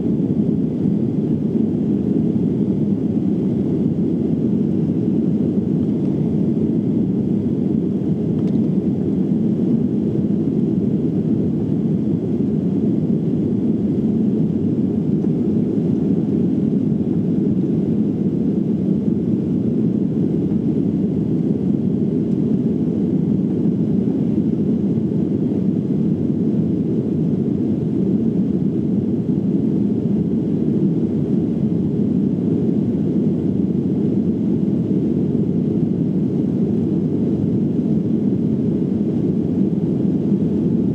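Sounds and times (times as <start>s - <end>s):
jet airliner cabin drone: 0.0s - 40.9s.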